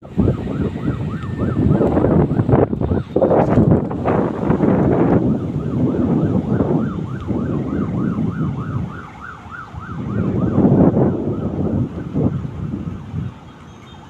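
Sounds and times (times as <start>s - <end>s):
emergency siren yelping: 0.0s - 13.7s
road traffic rumble: 0.0s - 14.0s
wind on microphone: 0.0s - 14.0s.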